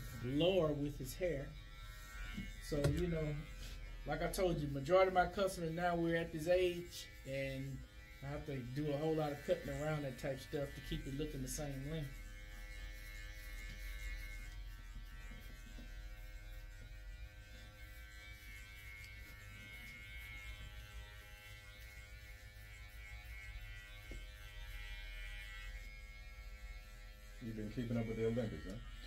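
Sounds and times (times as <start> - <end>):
electric hair clipper buzzing: 0.0 - 29.0.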